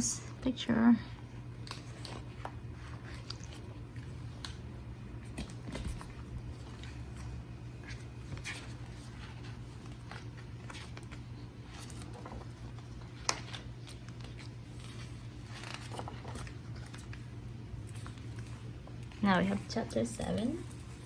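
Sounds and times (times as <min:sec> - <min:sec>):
paper and packaging rustling: 0:01.6 - 0:21.0.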